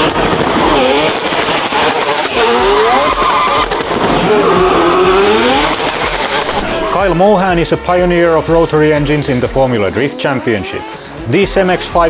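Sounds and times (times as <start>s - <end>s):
exhaust cracks: 0.0s - 12.0s
rotary engine revving: 0.0s - 12.0s.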